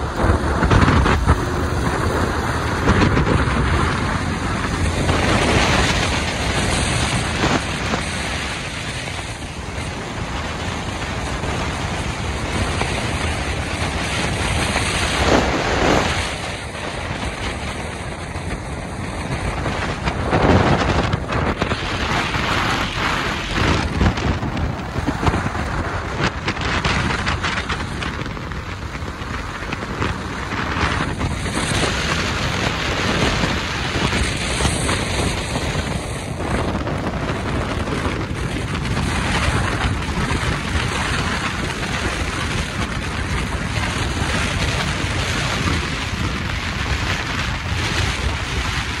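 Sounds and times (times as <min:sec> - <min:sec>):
road noise: 0:00.0 - 0:49.0
wind buffeting microphone: 0:00.0 - 0:49.0.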